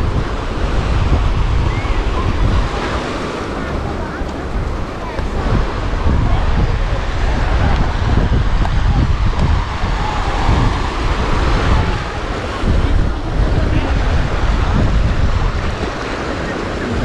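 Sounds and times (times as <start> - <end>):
waves breaking on sandy beach: 0.0 - 17.0
wind buffeting microphone: 0.0 - 17.0.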